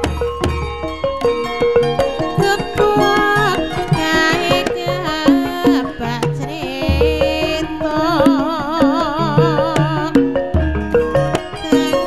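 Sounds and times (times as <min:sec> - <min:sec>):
melody with wide vibrato: 0:00.0 - 0:12.0
pitched melody: 0:00.0 - 0:12.0.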